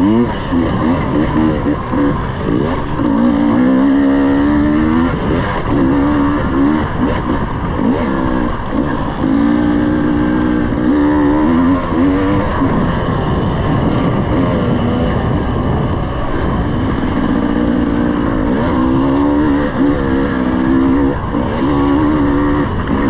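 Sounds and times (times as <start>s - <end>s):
dirt bike engine revving: 0.0s - 23.0s
steady rushing noise: 0.0s - 23.0s.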